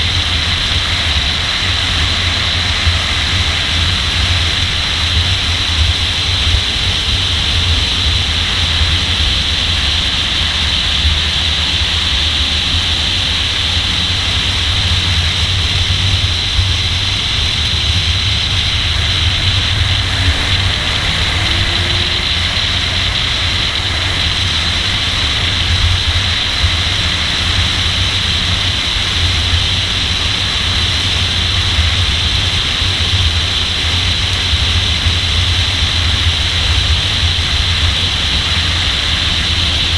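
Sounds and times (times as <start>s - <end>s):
car rumble at speed: 0.0s - 39.9s
wind rush: 0.0s - 39.9s.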